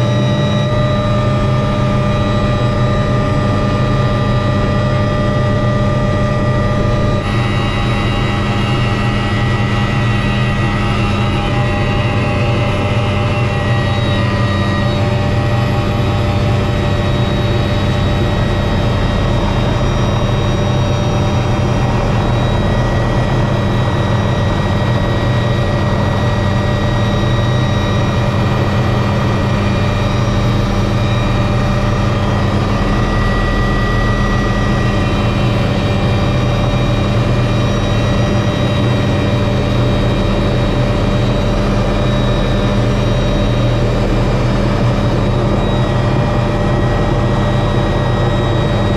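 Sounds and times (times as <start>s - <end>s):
helicopter rotor drone: 0.0s - 48.9s
high-pitched whine: 0.0s - 48.9s.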